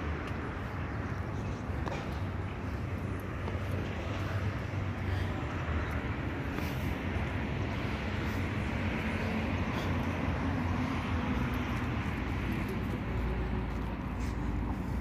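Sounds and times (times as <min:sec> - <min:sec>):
tyre and wind noise: 0:00.0 - 0:15.0.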